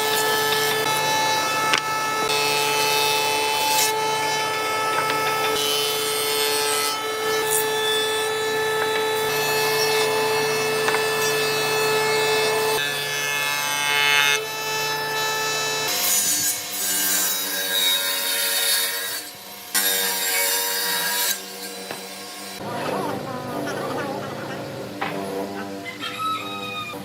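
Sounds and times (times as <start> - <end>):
power tool cutting wood: 0.0 - 27.0.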